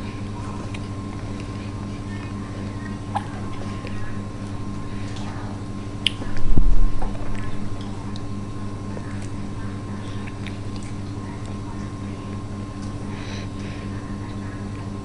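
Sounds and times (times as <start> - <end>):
toddler chewing and smacking: 0.0 - 5.4, 6.0 - 13.1
steady background hum: 0.0 - 15.0.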